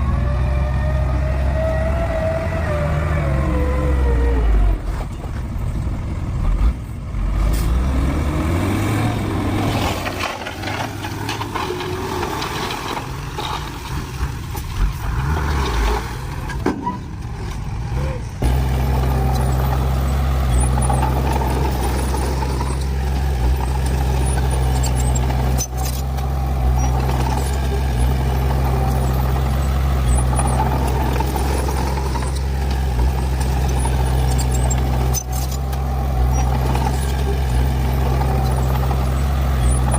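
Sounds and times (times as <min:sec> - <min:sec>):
diesel construction machinery engine: 0:00.0 - 0:39.9.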